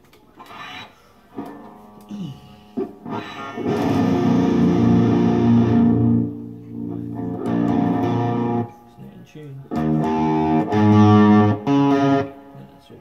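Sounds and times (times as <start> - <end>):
electric guitar chord ringing: 1.4 - 9.1, 9.7 - 12.7.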